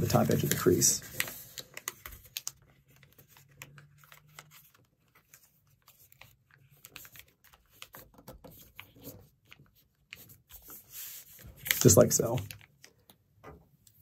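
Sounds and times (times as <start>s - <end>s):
paper being folded and creased: 0.0s - 13.2s.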